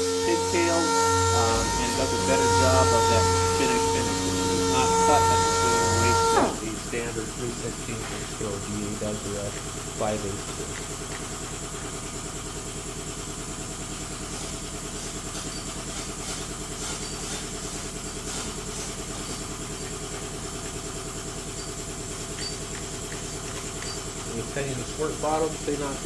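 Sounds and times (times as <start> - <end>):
sander running: 0.0 - 26.0.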